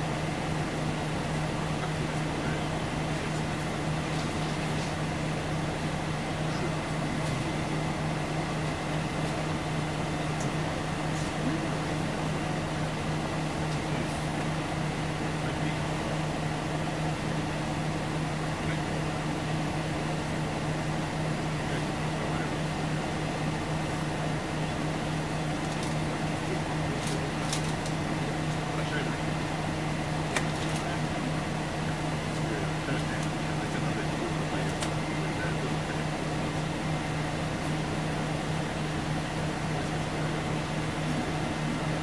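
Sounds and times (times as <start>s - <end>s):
bus diesel engine humming: 0.0s - 42.0s
passenger cabin rumble: 0.0s - 42.0s.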